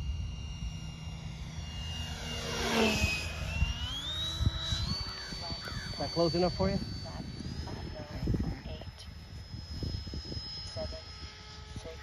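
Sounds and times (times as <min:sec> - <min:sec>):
model jet fan whine: 0:00.0 - 0:12.0.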